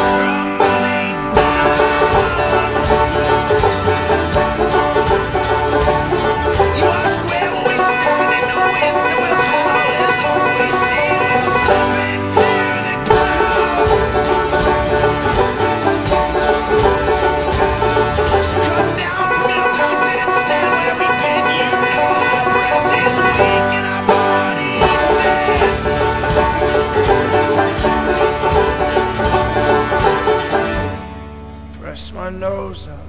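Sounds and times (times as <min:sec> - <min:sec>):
banjo strummed fast: 0:00.0 - 0:31.2.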